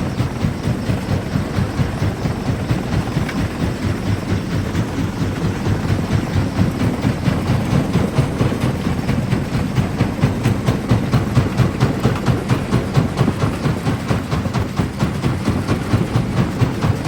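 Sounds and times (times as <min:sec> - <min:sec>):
rock crusher rhythmic rumble: 0:00.0 - 0:17.0.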